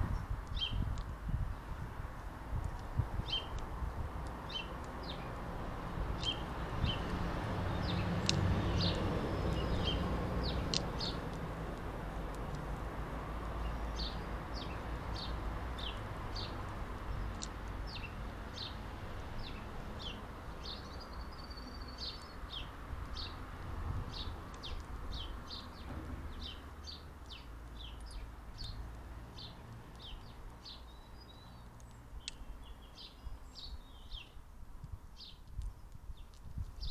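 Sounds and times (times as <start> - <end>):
garden birds chirping: 0.0 - 36.9.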